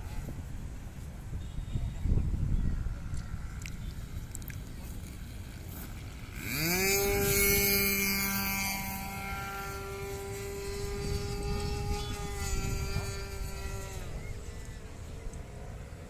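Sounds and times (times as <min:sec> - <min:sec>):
model airplane engine droning: 0:02.3 - 0:16.0.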